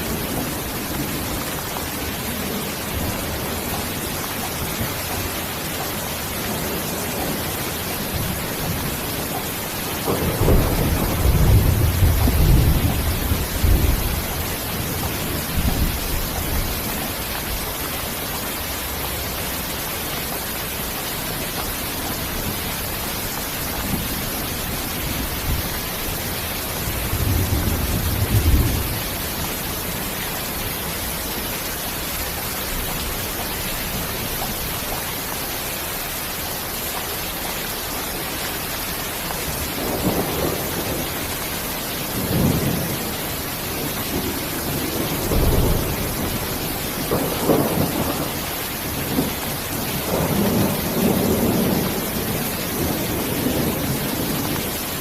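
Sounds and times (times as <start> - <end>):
low thunder rumbling: 0.0 - 35.0, 38.3 - 55.0
steady rain: 0.0 - 55.0.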